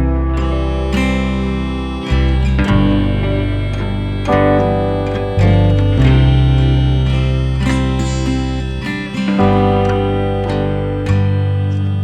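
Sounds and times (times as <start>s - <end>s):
guitar chords: 0.0s - 12.0s
steady bass: 0.0s - 12.0s.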